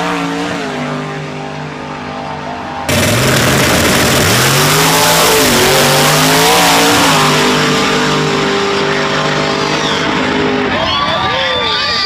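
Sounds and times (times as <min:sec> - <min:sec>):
pickup truck engines accelerating: 0:00.0 - 0:12.0.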